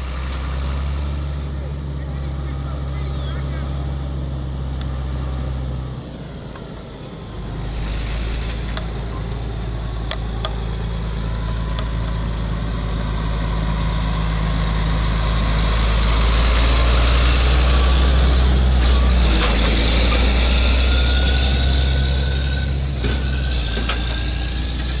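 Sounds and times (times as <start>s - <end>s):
tractor diesel engine: 0.0s - 25.0s.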